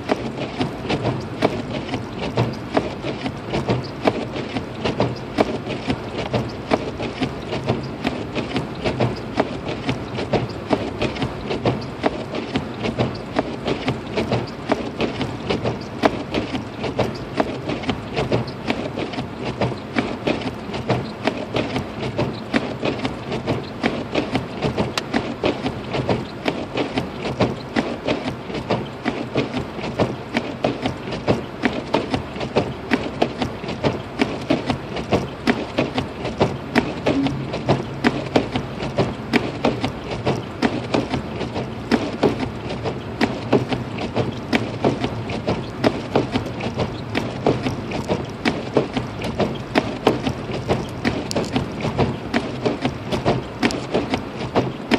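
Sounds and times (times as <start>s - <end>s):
rapid ticking and tapping: 0.0s - 54.9s
road and engine hum: 0.0s - 54.9s.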